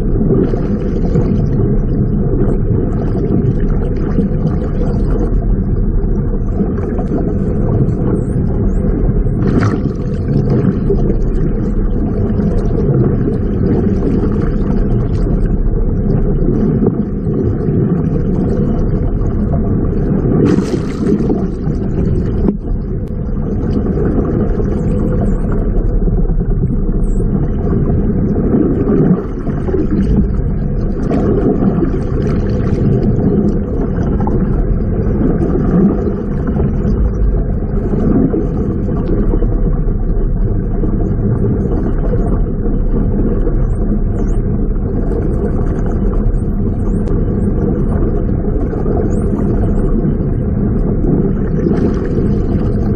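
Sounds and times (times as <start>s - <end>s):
muffled underwater rumble: 0.0s - 52.9s.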